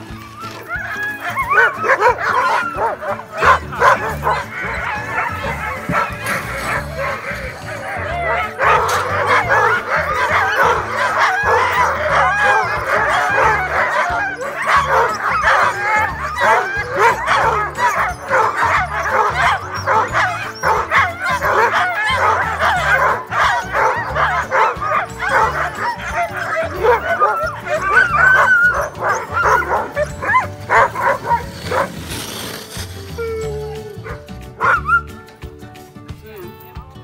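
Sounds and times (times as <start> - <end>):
dogs yipping barking and howling: 0.0 - 35.5.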